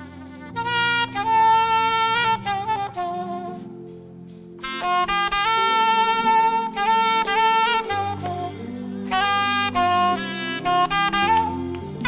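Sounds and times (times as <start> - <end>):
alto saxophone melody: 0.0 - 12.0.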